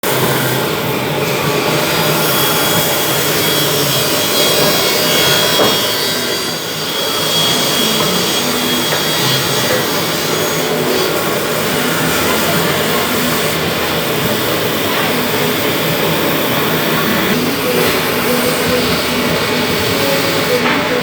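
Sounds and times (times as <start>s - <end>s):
woodworking machine sawing wood: 0.0s - 21.0s.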